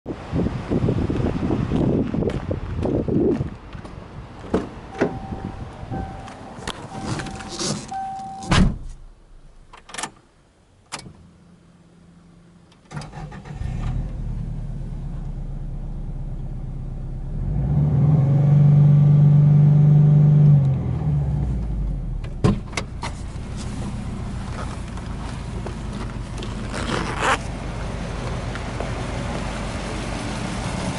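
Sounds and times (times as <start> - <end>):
car engine starting and idling: 4.6 - 30.9.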